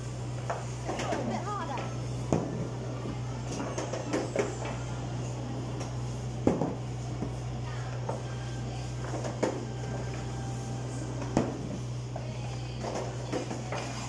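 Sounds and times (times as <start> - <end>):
arcade machine hum: 0.0 - 14.0.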